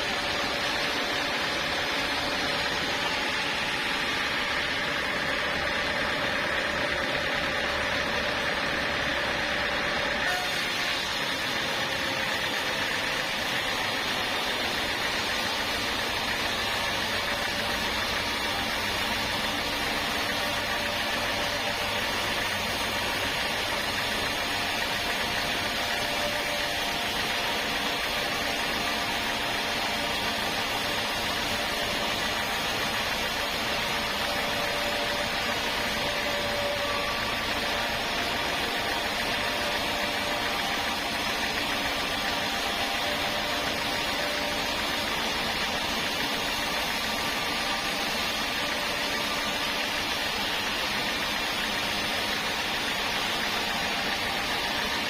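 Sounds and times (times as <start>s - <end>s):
sawmill machinery motor drone: 0.0s - 55.0s.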